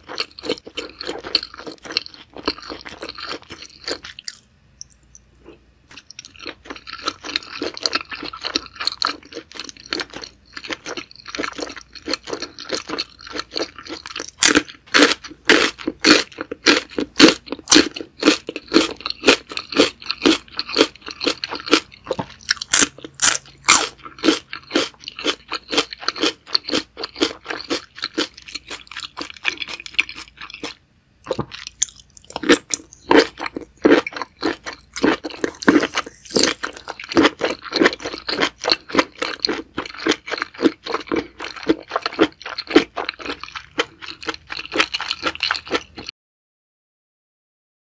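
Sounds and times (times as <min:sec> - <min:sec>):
wet crunching chewing: 0:00.0 - 0:46.1.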